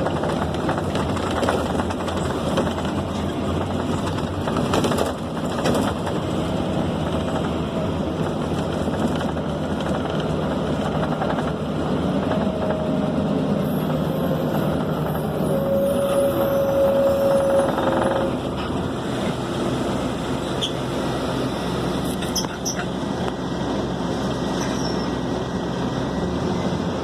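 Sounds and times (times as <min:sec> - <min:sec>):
diesel engine drone: 0:00.0 - 0:27.0
road noise: 0:00.0 - 0:27.0.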